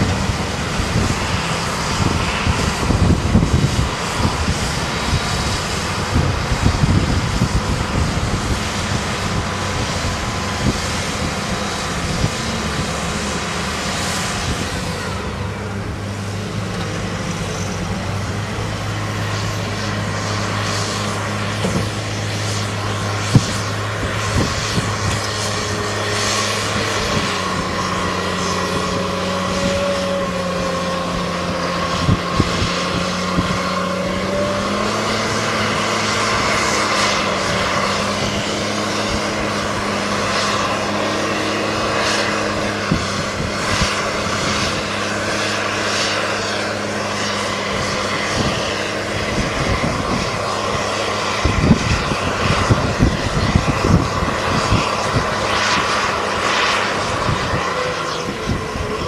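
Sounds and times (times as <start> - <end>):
tractor diesel engines running: 0.0 - 59.0.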